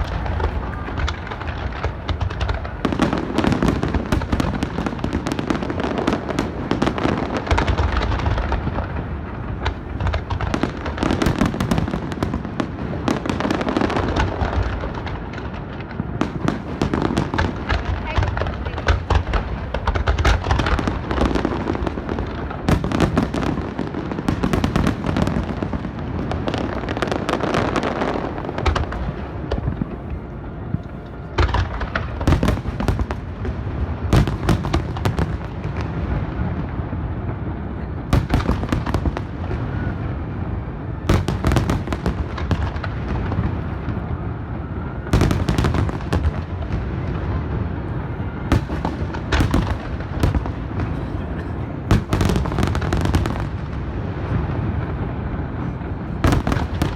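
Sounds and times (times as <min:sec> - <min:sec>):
sharp firework crackling: 0:00.0 - 0:51.1, 0:51.8 - 0:56.9
deep firework booms: 0:00.0 - 0:56.9.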